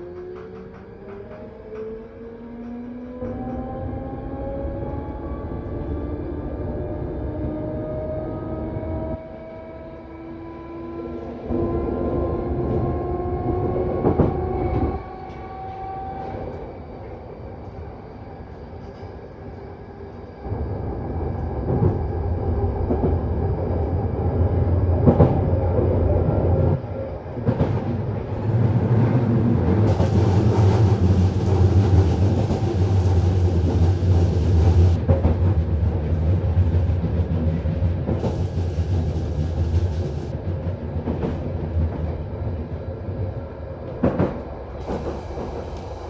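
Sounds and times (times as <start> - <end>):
train running noise: 0.0 - 7.0, 11.0 - 46.0
train whine: 0.0 - 46.0.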